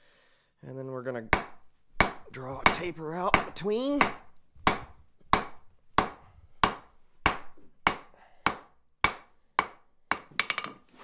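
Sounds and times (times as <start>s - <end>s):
hammer striking steel on anvil: 1.3s - 10.8s.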